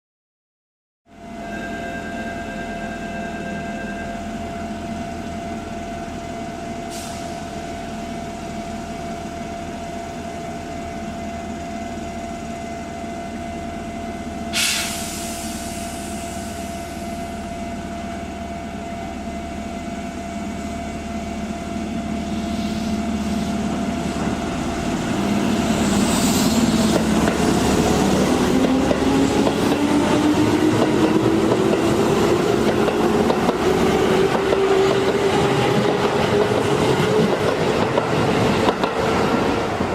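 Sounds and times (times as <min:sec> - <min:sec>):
electric train humming: 0:01.1 - 0:39.9.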